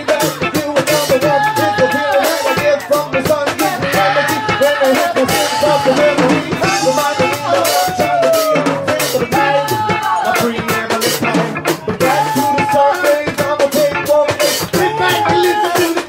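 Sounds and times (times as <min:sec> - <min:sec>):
beatboxing: 0:00.0 - 0:16.0
voices singing together: 0:00.0 - 0:16.0.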